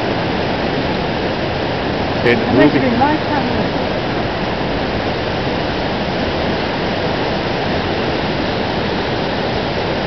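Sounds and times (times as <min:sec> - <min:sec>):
flooded river rushing: 0:00.0 - 0:10.0.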